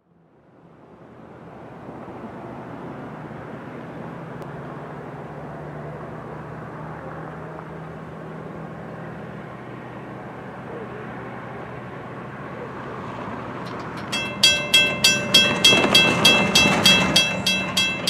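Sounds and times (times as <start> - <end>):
engine rumble: 2.0 - 18.0.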